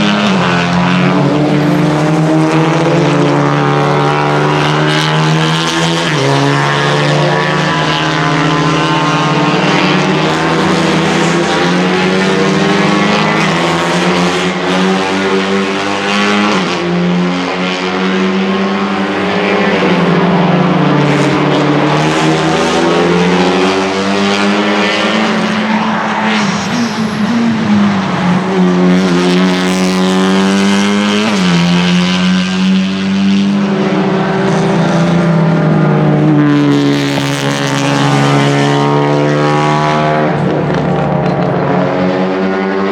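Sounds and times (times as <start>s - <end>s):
race car engines running hard: 0.0s - 42.9s.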